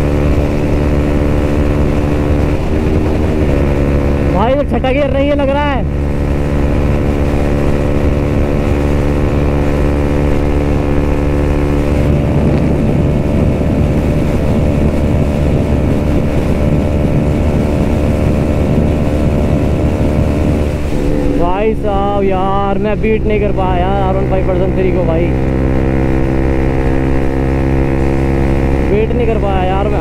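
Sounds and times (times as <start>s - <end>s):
motorcycle engine at high revs: 0.0s - 30.0s
wind rushing: 0.0s - 30.0s.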